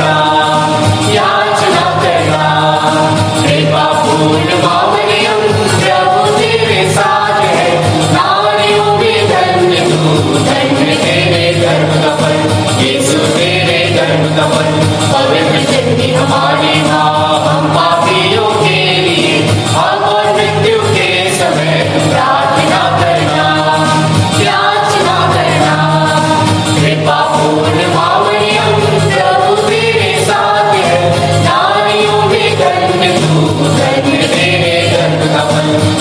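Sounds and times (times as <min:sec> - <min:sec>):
choir singing a hymn: 0:00.0 - 0:36.0
instrumental accompaniment with bass: 0:00.0 - 0:36.0.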